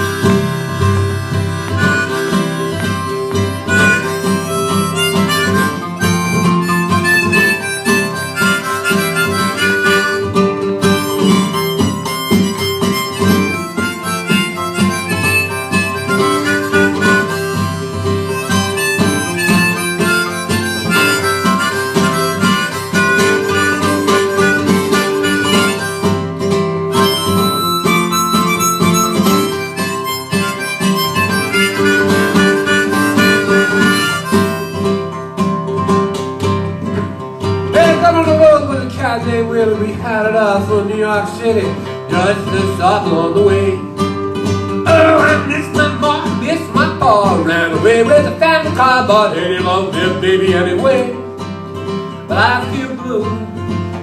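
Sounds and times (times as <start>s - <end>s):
harmonica melody: 0.0s - 38.8s, 40.4s - 54.0s
strummed acoustic guitar: 0.0s - 54.0s.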